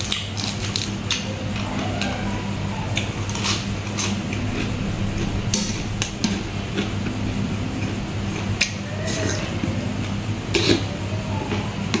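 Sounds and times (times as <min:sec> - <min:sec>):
chewing crisp vegetables: 0:00.0 - 0:12.0
steady low hum: 0:00.0 - 0:12.0.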